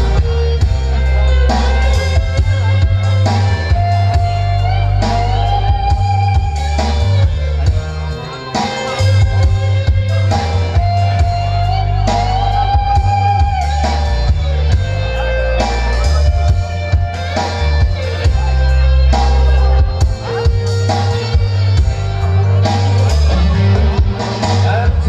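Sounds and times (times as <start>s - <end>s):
loud music with guitar and bass: 0.0s - 25.0s.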